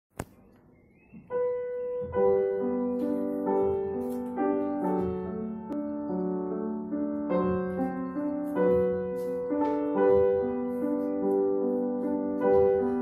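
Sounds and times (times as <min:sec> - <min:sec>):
grand piano melody: 0:00.7 - 0:13.0.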